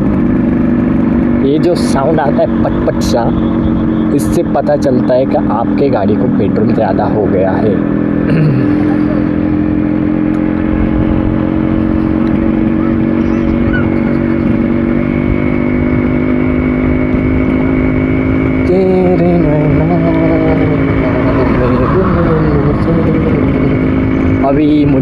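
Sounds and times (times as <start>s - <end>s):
two-stroke motorcycle engine: 0.0s - 25.0s.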